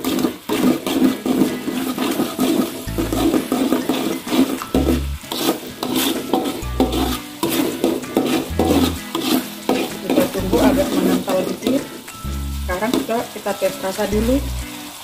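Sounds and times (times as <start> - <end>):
sauce sloshing: 0.0 - 12.6
metal spatula scraping wok: 0.0 - 15.0.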